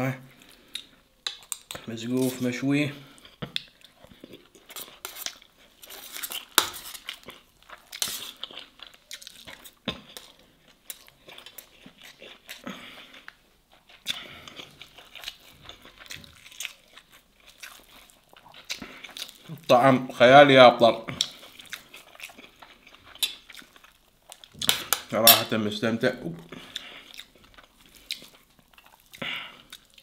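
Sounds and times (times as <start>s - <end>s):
chewing and mouth noises: 3.1s - 19.7s, 21.0s - 25.1s, 26.4s - 30.0s.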